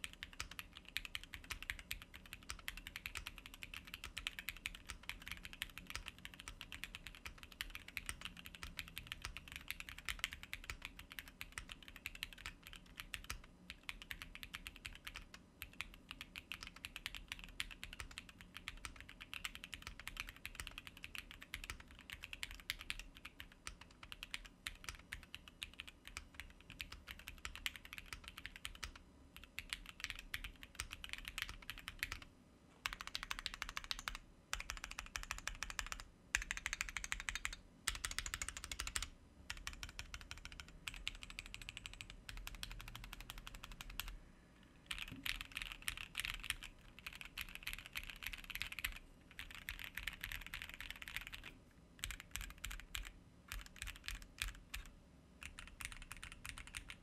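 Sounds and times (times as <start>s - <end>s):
fast typing on mechanical keyboard: 0.0s - 44.2s, 44.9s - 57.0s.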